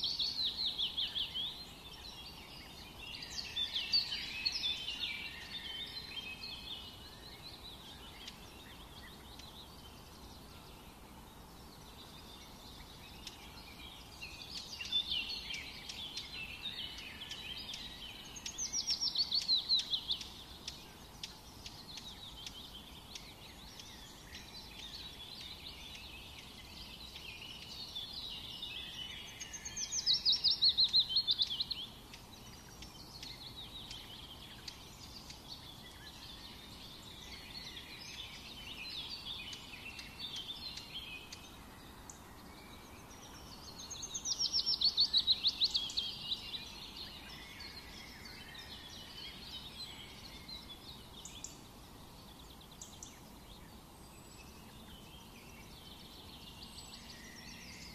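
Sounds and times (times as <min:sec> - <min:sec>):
faint steady hiss: 0:00.0 - 0:57.9
songbirds chirping: 0:00.0 - 0:57.9.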